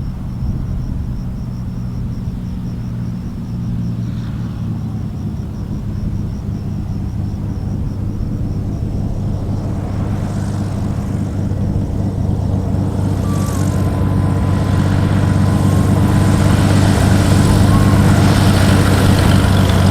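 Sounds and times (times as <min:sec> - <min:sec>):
propeller aircraft engine humming: 0:00.0 - 0:19.9
faint thin whine: 0:02.2 - 0:19.9.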